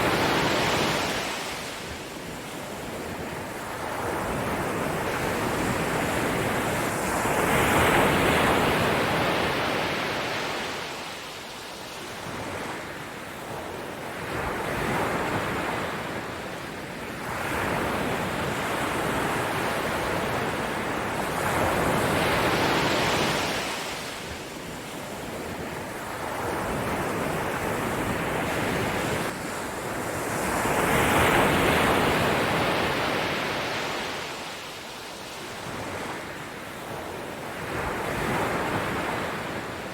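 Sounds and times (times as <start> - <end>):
waves breaking and washing in: 0.0 - 39.9.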